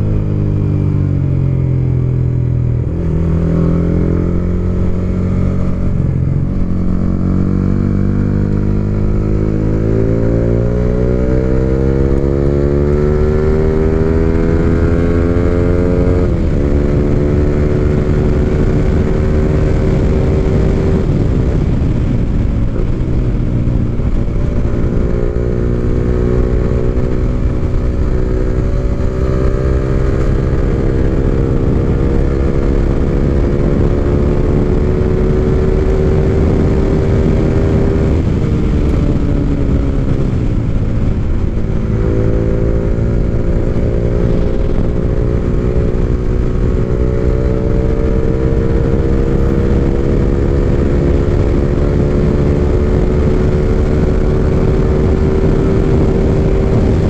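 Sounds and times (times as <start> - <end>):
low wind rumble: 0.0 - 57.0
motorcycle engine running: 0.0 - 57.0.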